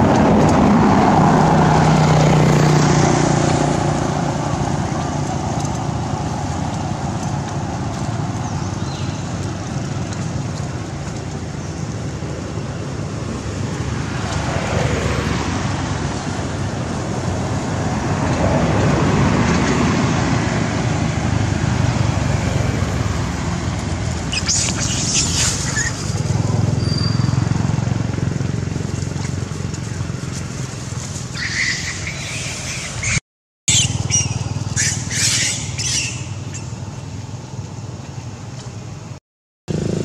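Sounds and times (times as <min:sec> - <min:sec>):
motor vehicle passing: 0:00.0 - 0:40.0
road traffic noise: 0:00.0 - 0:40.0.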